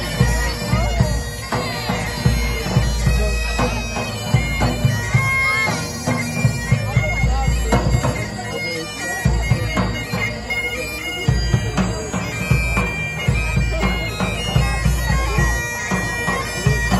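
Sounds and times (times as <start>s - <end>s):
bagpipe music: 0.0s - 16.9s.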